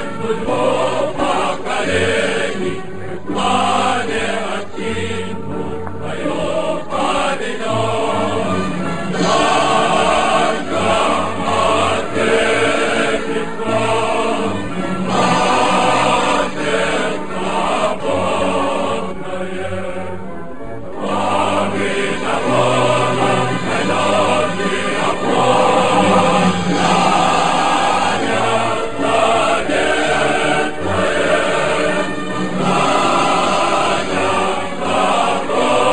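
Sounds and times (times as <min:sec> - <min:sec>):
choir singing slow phrases: 0:00.0 - 0:20.3, 0:20.9 - 0:35.9.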